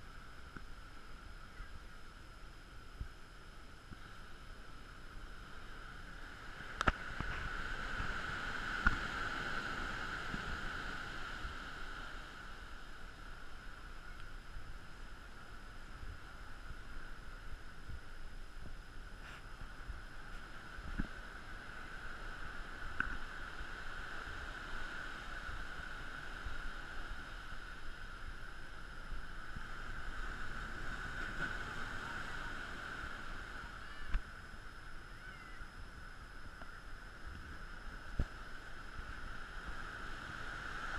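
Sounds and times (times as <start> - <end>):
constant high buzz: 0.0 - 40.9
surf washing onto beach: 0.0 - 40.9.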